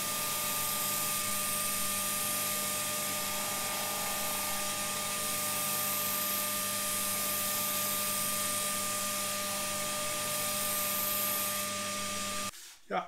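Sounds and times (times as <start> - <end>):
dust extraction rushing: 0.0 - 12.1
disc sander hum and whine: 0.0 - 12.5.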